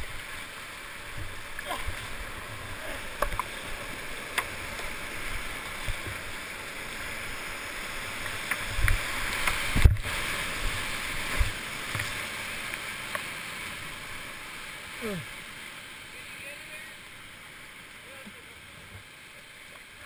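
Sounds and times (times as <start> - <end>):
whitewater rushing: 0.0 - 20.0.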